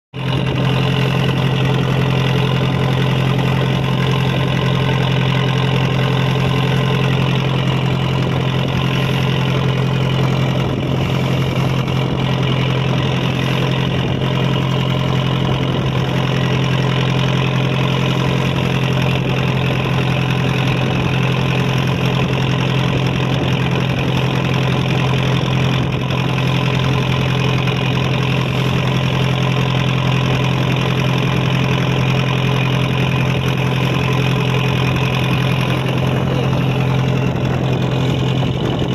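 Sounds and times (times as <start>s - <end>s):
boat engine droning: 0.1s - 38.9s.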